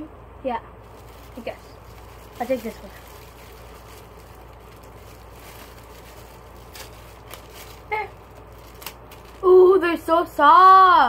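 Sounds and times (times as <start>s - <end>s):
steady low hum: 0.0s - 11.0s
plastic packaging rustling: 0.8s - 9.8s.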